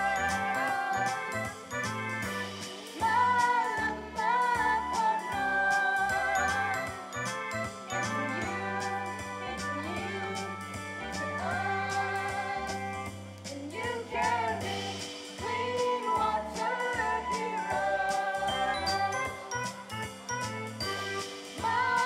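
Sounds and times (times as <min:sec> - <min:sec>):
people singing: 0:00.0 - 0:19.9, 0:20.9 - 0:22.0
backing music with bass notes: 0:00.0 - 0:22.0.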